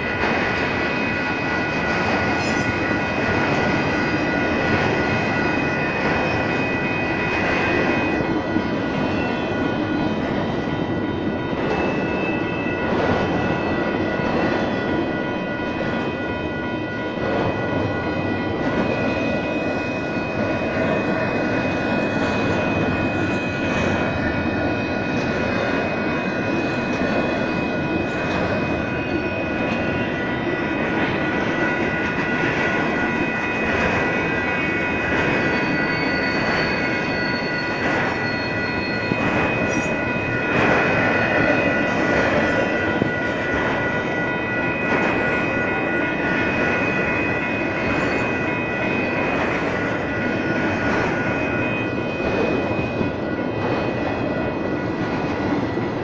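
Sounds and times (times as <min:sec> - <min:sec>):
crossing bells ringing: 0:00.0 - 0:56.0
train wheels clattering on rails: 0:00.0 - 0:56.0.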